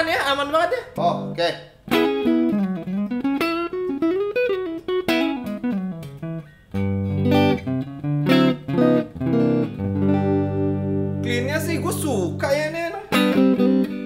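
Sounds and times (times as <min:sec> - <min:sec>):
clean electric guitar: 0:00.9 - 0:14.0.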